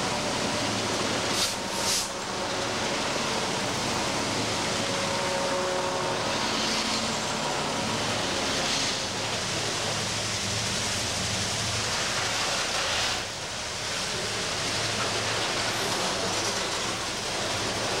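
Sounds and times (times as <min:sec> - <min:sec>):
diesel locomotive engine running: 0:00.0 - 0:18.0
train wheels rolling on rails: 0:00.0 - 0:18.0.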